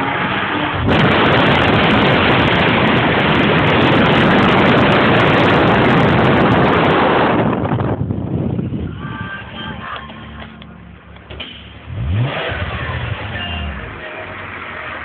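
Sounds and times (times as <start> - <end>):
wind and road noise at speed: 0.0 - 13.3.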